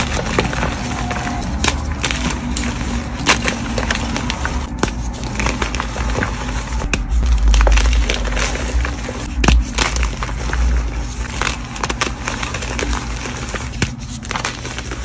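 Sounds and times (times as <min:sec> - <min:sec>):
low rumble: 0:00.0 - 0:13.7
chalk blocks crunching: 0:00.0 - 0:15.0.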